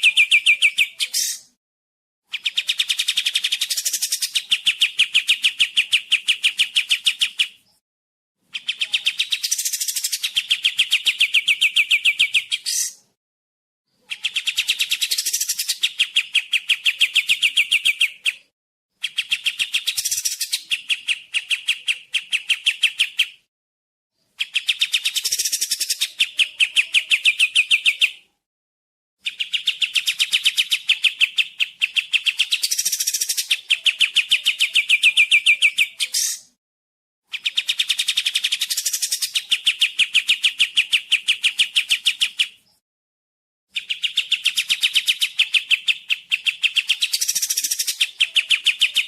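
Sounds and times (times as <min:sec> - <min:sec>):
songbird fast trill: 0:02.4 - 0:07.6, 0:08.6 - 0:13.1, 0:14.0 - 0:18.5, 0:19.1 - 0:23.2, 0:24.5 - 0:28.0, 0:29.3 - 0:36.6, 0:37.3 - 0:42.8, 0:43.7 - 0:49.0.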